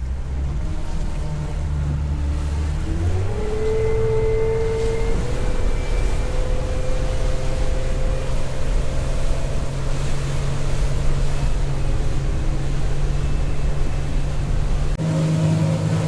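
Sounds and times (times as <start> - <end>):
wind on microphone: 0.0 - 15.0
boat engine running: 0.0 - 16.0
water rushing along hull: 0.0 - 16.0.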